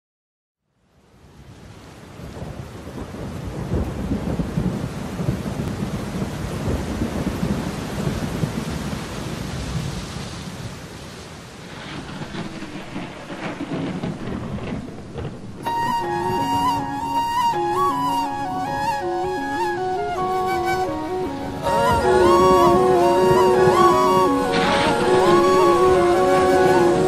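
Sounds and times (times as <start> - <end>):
rain hissing: 1.3 - 27.0
low rolling thunder: 2.0 - 10.8, 11.5 - 27.0.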